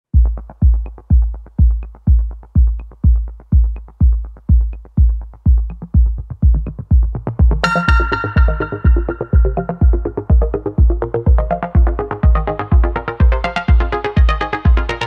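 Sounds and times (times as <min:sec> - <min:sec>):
deep kick drum: 0:00.1 - 0:15.0.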